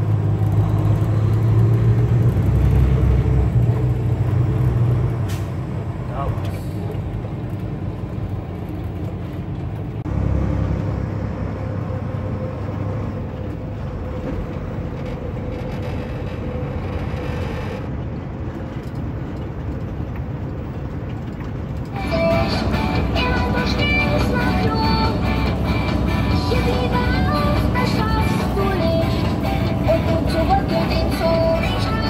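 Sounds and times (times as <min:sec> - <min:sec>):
truck engine and road noise: 0:00.0 - 0:32.0.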